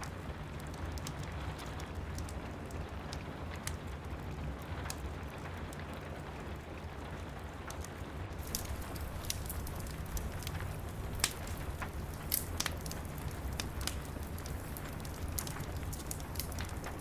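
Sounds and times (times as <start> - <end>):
rain pattering: 0.0 - 17.0
wood fire crackling: 0.0 - 17.0.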